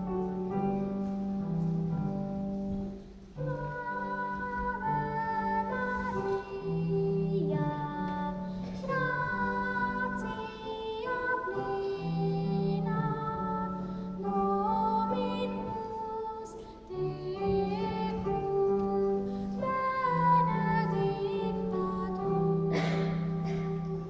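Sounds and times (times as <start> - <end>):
keyboard accompaniment: 0.0 - 24.0
girl singing slow song: 3.2 - 24.0.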